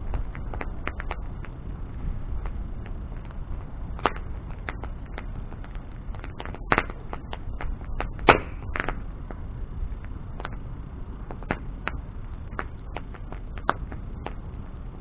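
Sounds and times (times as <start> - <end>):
bonfire crackling and popping: 0.0 - 15.0
low steady rumble: 0.0 - 15.0.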